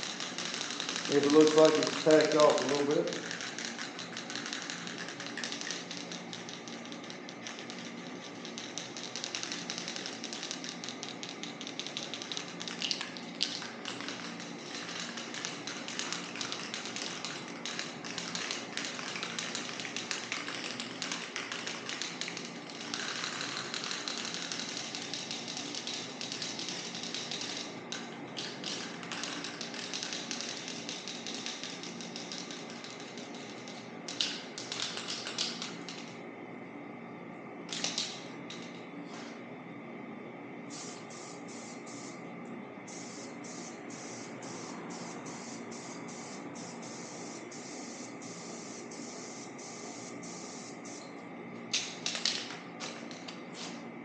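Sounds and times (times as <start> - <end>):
spray paint hissing: 0.0 - 6.4, 7.5 - 27.8, 28.4 - 35.7, 40.7 - 42.2, 42.9 - 51.1, 52.8 - 53.8.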